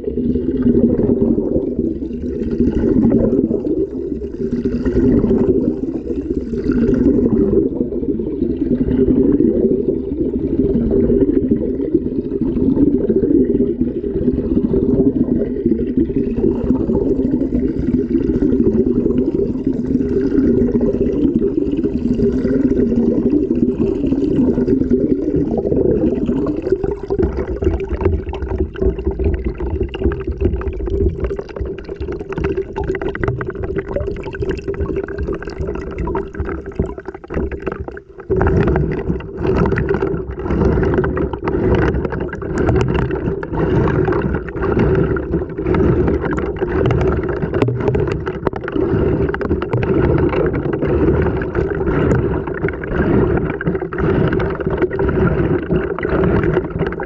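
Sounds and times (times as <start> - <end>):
water sloshing in washing machine: 0.0 - 9.5, 10.5 - 57.0.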